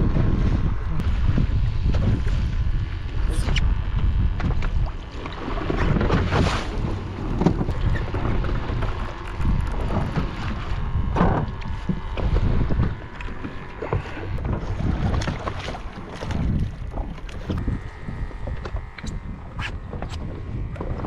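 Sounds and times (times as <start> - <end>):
water sloshing around boat: 0.0 - 21.0
wind buffeting microphone: 0.0 - 21.0.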